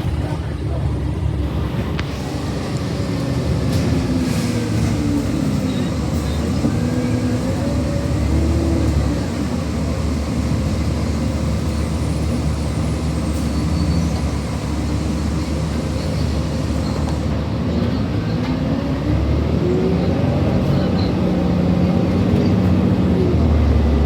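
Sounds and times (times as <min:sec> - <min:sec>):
bus engine and drivetrain: 0:00.0 - 0:24.0.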